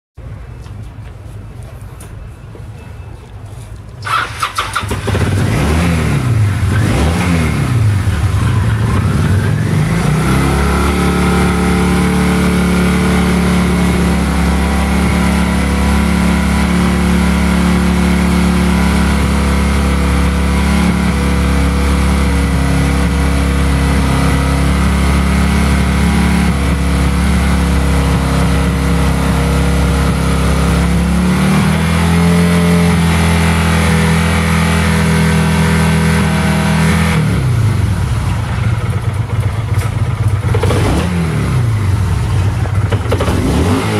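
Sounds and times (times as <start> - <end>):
motorcycle engine revving and idling: 4.0 - 43.9.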